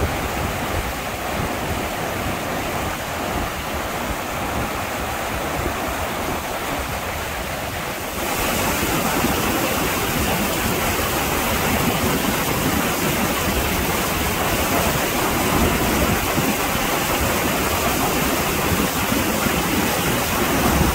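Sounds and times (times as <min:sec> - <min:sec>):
creek rapids rushing over rocks: 0:00.0 - 0:20.9.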